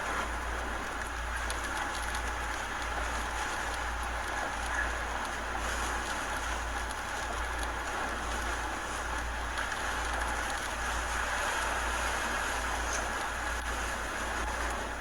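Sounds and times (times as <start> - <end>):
hurricane wind and rain: 0.0 - 15.0.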